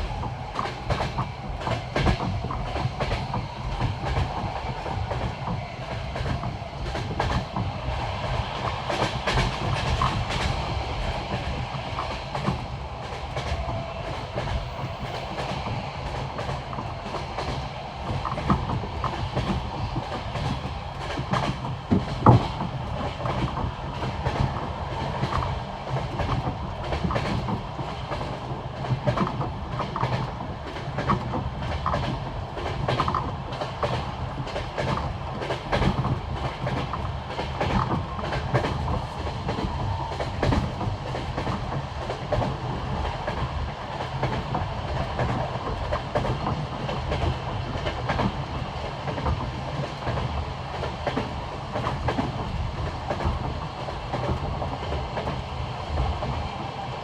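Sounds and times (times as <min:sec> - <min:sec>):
train carriage rumble: 0:00.0 - 0:57.0
train wheels clickety-clack: 0:00.0 - 0:57.0.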